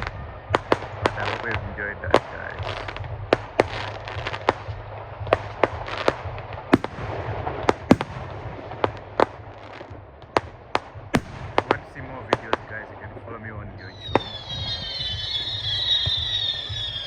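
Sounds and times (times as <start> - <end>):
fireworks bangs and cracks: 0.0 - 17.0
low background noise: 0.0 - 17.0.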